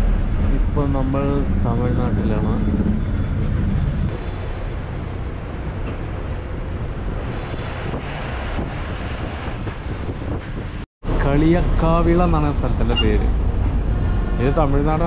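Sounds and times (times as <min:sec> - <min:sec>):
bus engine rumble: 0:00.0 - 0:15.0
road noise: 0:00.0 - 0:15.0
wind buffeting: 0:00.0 - 0:15.0.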